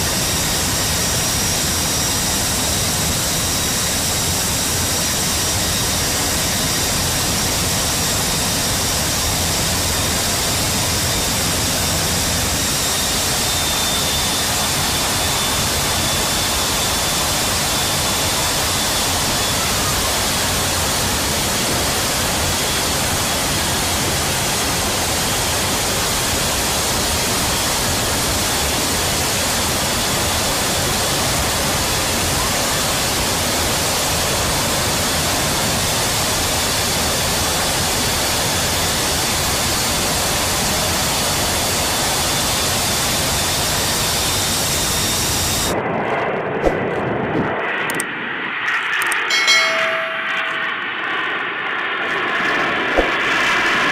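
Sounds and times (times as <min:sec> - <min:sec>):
jet engines droning and whining: 0:00.0 - 0:53.9.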